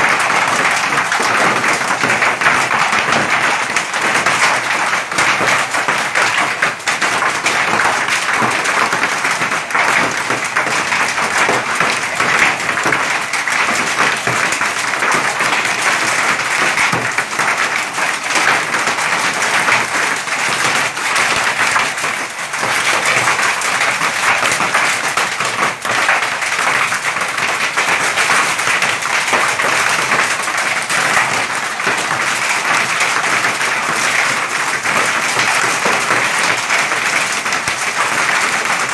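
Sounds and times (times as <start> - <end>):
hail and rain pelting ground: 0.0 - 38.9.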